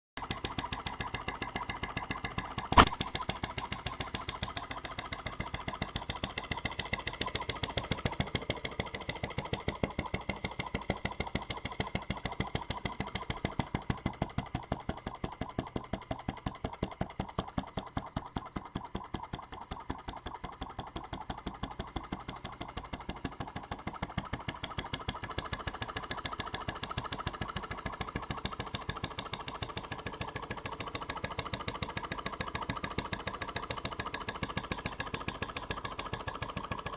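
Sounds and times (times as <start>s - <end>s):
model engine running: 0.2s - 36.9s.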